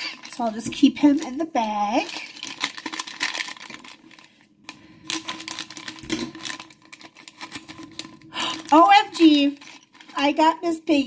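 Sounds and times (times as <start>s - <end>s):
foil bag crinkling: 0.0s - 10.7s.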